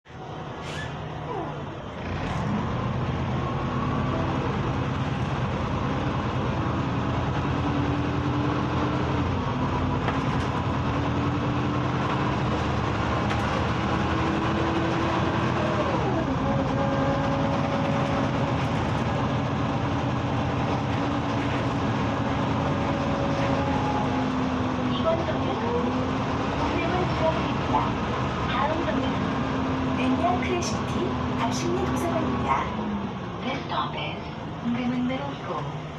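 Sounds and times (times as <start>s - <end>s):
bus engine accelerating: 0.0s - 35.9s
road noise: 0.0s - 35.9s.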